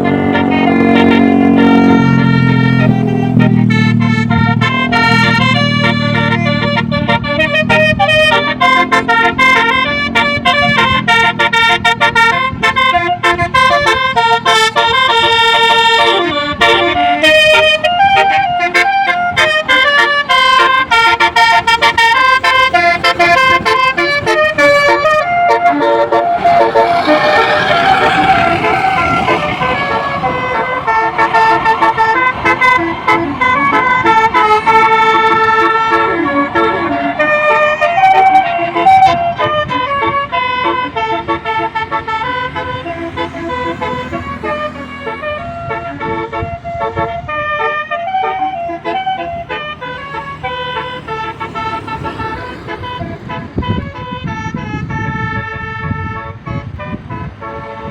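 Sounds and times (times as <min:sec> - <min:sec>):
bus melody horn playing a tune: 0:00.0 - 0:57.9.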